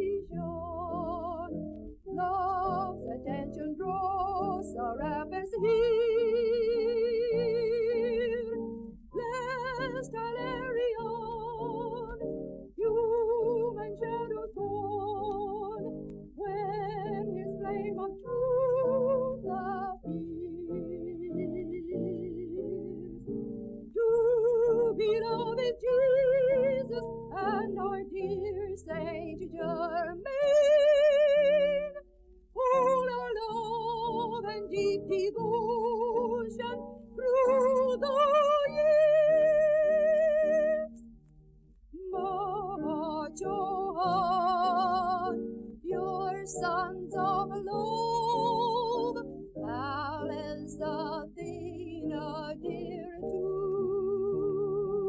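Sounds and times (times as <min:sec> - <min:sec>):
woman singing a hymn: 0:00.0 - 0:23.1, 0:23.9 - 0:32.0, 0:32.6 - 0:41.0, 0:42.0 - 0:55.0.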